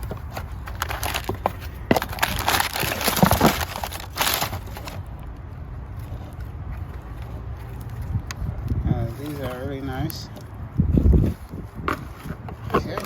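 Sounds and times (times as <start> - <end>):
rustling and scraping: 0.0 - 13.0.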